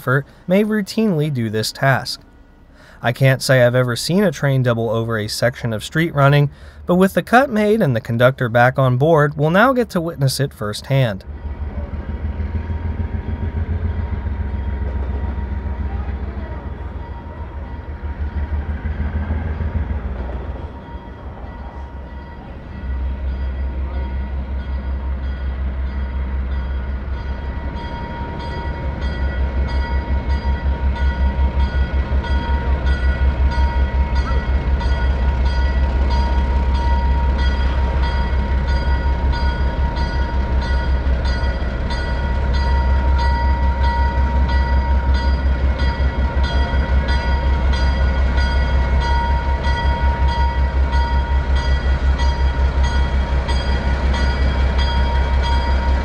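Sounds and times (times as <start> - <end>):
diesel locomotive engine throbbing: 0.0 - 56.0
locomotive bell ringing: 0.0 - 56.0.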